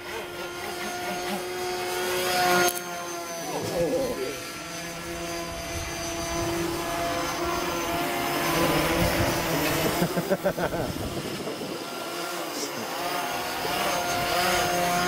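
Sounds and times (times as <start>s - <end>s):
electric motor and propeller whining: 0.0s - 15.0s.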